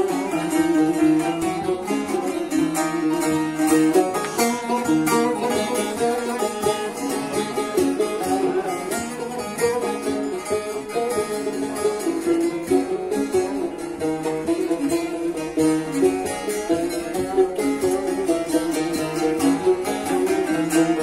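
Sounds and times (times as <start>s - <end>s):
plucked long-necked lute melody: 0.0s - 21.0s.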